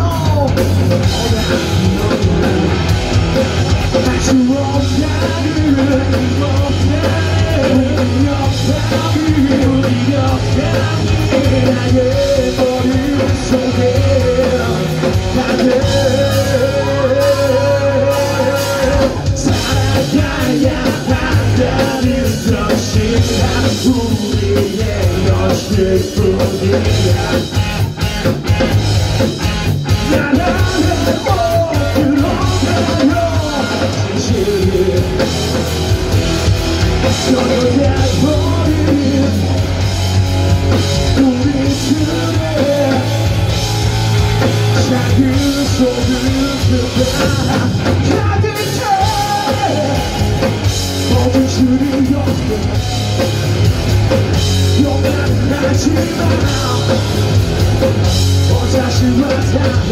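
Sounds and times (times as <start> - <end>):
singer yelling vocals: 0.0 - 2.9, 3.9 - 27.7, 30.0 - 35.3, 37.0 - 39.8, 40.9 - 53.0, 54.6 - 57.1, 58.4 - 59.9
drum kit: 0.0 - 59.9
rock band playing loud: 0.0 - 59.9.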